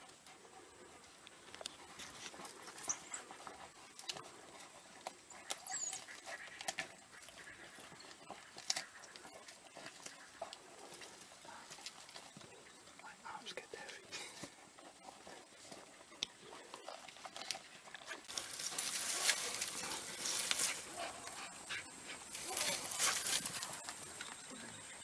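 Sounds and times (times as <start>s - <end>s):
animals tearing and chewing meat: 1.2s - 12.6s, 14.2s - 24.4s.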